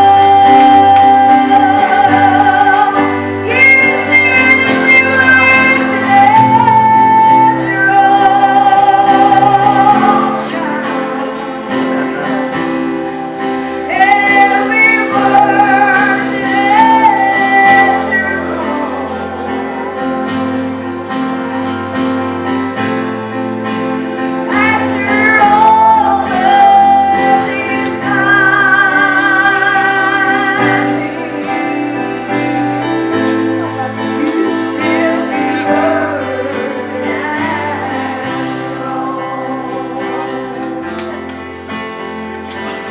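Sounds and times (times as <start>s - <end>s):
woman singing gospel song: 0.0s - 12.6s, 13.8s - 20.7s, 24.5s - 41.6s
instrumental accompaniment: 0.0s - 42.9s.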